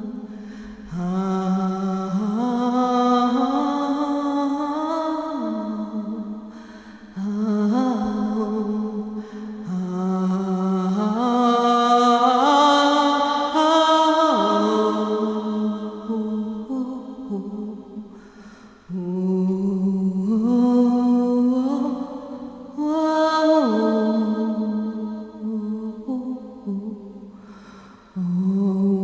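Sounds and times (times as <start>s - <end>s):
person chanting wordless tones: 0.0s - 18.2s, 18.9s - 27.4s, 28.2s - 29.0s.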